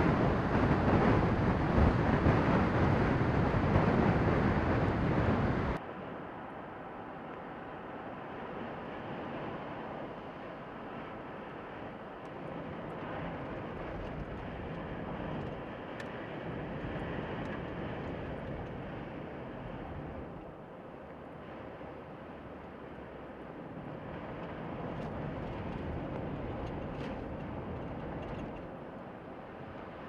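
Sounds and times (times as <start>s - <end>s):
highway traffic rushing: 0.0s - 30.0s.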